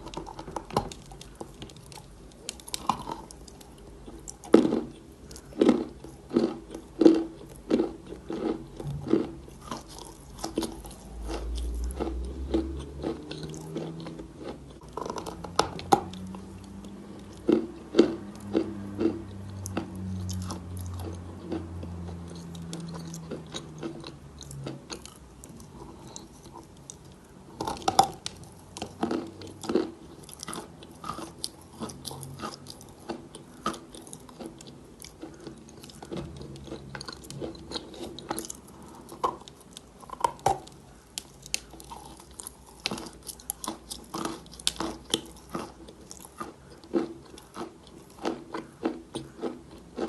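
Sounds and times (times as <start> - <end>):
chalk crunching while chewed: 0.0 - 50.0.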